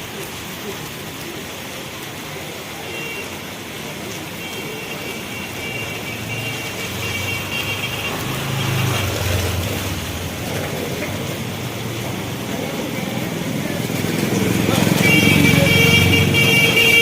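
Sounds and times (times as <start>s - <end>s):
heavy rain falling: 0.0s - 17.0s
vehicle passing on wet road: 0.0s - 17.0s.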